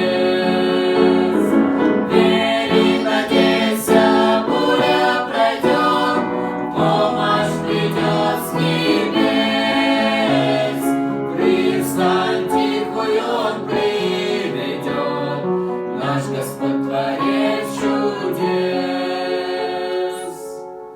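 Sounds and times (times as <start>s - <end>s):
choir singing sustained notes: 0.0s - 20.9s
musical accompaniment: 0.0s - 20.9s.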